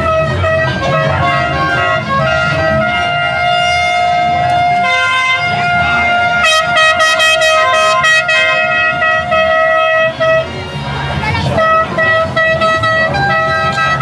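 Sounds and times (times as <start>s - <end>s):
held horn-like notes: 0.0s - 14.0s.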